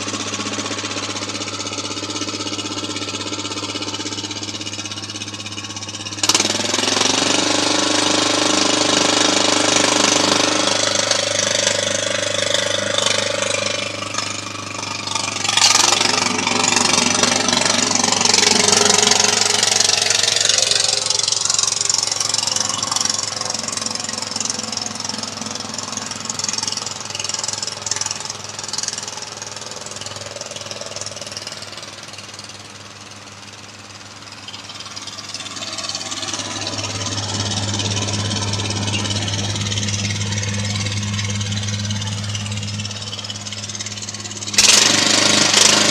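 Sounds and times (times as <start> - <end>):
riding lawn mower engine: 0.0 - 45.9.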